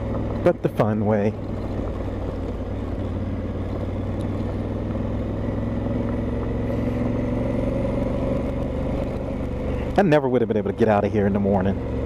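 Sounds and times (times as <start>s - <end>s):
motorcycle engine running: 0.0s - 12.0s
tyre noise on dirt road: 0.0s - 12.0s.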